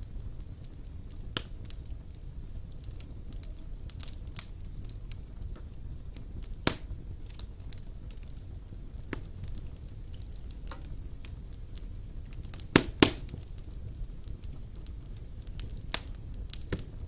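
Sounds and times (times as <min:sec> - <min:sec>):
fire rumbling: 0:00.0 - 0:17.0
wood fire crackling and popping: 0:00.0 - 0:17.0.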